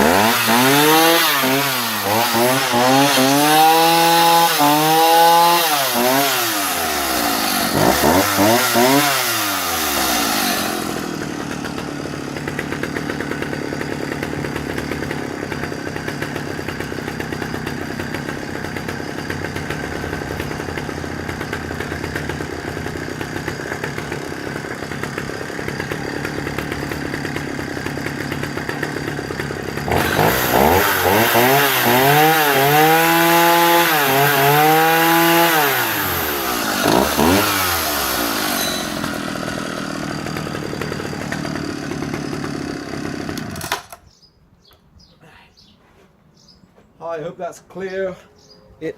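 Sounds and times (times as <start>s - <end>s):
chainsaw engine revving and idling: 0.0s - 44.0s.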